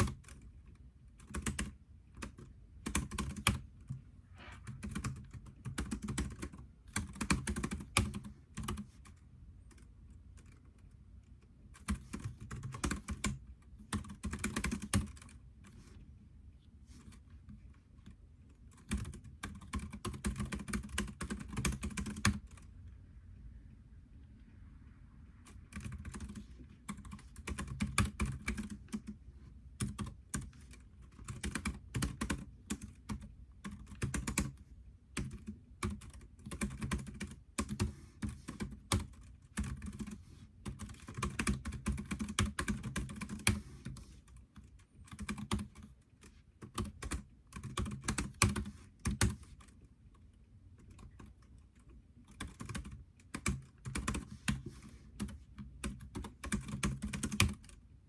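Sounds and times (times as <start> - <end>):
typing on computer keyboard: 0.0 - 4.0, 4.6 - 10.9, 11.7 - 15.8, 18.0 - 22.7, 25.4 - 29.2, 29.8 - 49.8, 50.8 - 57.8.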